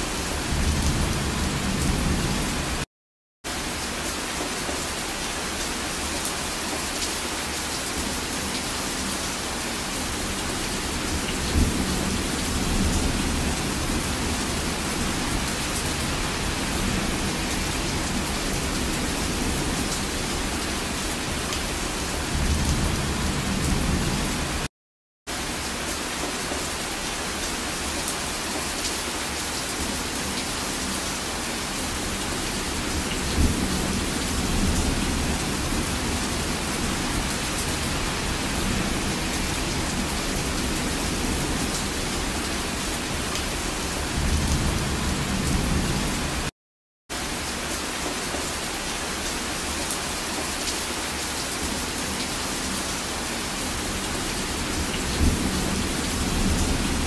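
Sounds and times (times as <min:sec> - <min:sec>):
heavy rain: 0:00.0 - 0:02.9, 0:03.5 - 0:24.7, 0:25.3 - 0:46.5, 0:47.1 - 0:57.0.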